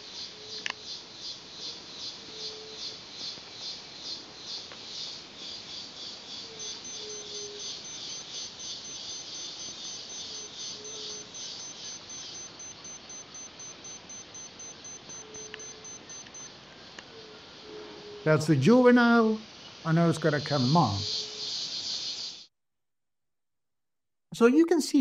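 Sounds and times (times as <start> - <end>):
insect pulsing trill: 0.0 - 22.5
insect rapid ticking: 0.0 - 22.5.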